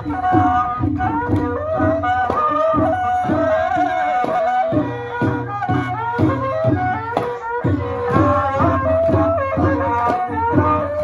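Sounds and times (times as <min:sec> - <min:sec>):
hand drum beat: 0:00.0 - 0:11.0.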